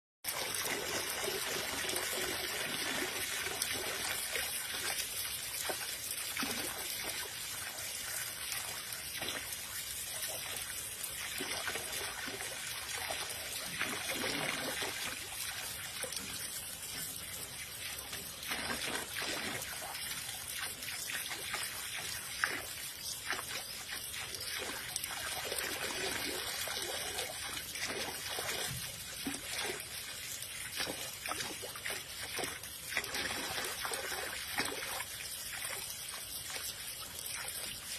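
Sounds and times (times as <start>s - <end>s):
water trickling and splashing: 0.2s - 37.9s.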